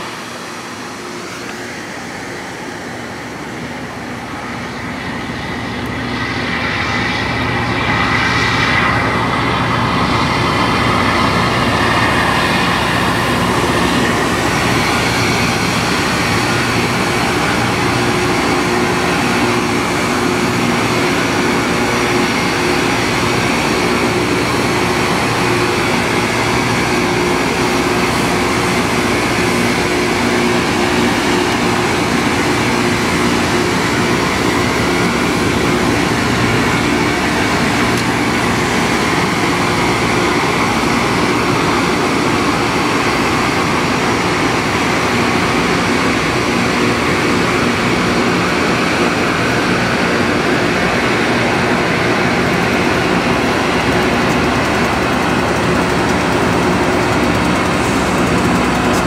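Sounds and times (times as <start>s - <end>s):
rail grinder grinding rushing din: 0.0s - 59.0s
steady machinery hum: 0.0s - 59.0s.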